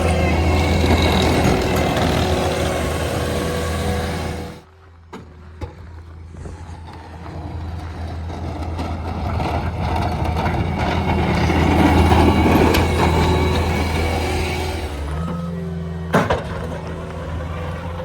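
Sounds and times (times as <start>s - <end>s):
loader diesel engine under load: 0.0s - 18.0s.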